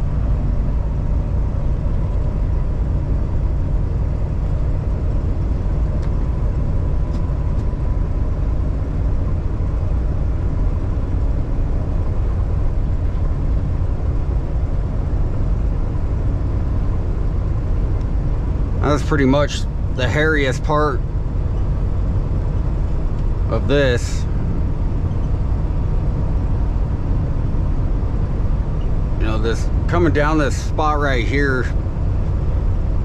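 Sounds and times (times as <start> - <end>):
diesel truck engine running: 0.0 - 33.0
faint steady whine: 0.0 - 33.0
road noise: 0.0 - 33.0.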